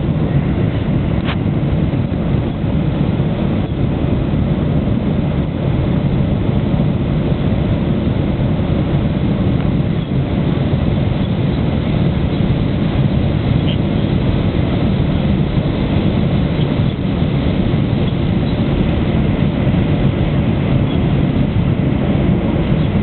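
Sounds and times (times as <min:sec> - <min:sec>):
airplane cabin roar: 0:00.0 - 0:23.0.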